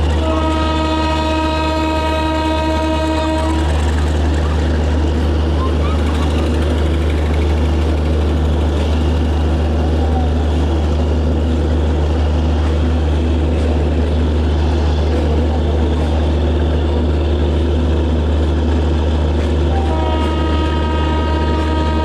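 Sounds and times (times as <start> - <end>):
diesel train engine droning: 0.0 - 22.0.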